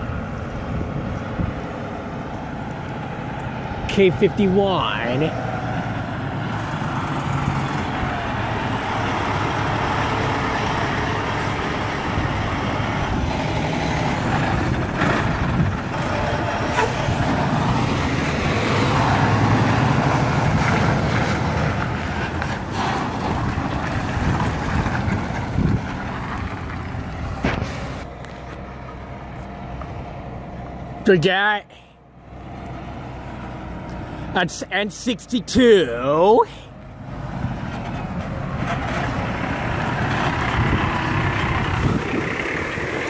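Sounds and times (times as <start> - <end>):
diesel truck engine driving past: 0.0 - 31.1, 31.9 - 43.0.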